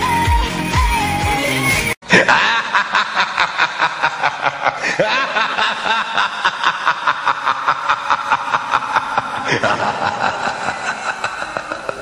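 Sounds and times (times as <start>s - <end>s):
person laughing: 2.0s - 12.0s.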